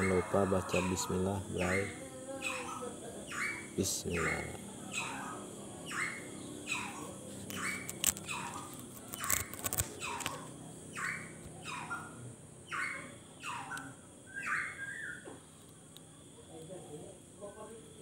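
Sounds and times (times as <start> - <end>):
bird calling: 0.0 - 15.4.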